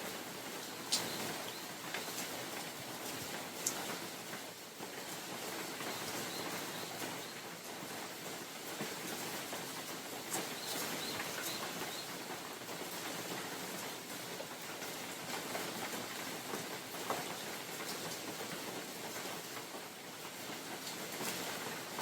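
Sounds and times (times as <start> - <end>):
rain falling: 0.0 - 22.0
raindrops ticking on leaves: 0.0 - 22.0.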